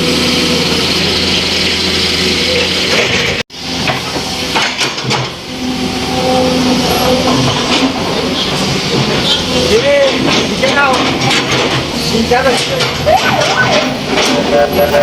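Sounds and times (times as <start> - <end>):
engine running with hiss: 0.0 - 15.0.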